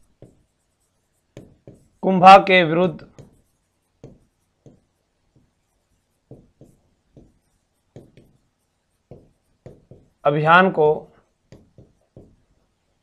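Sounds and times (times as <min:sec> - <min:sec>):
marker pen writing on whiteboard: 0:00.0 - 0:13.0.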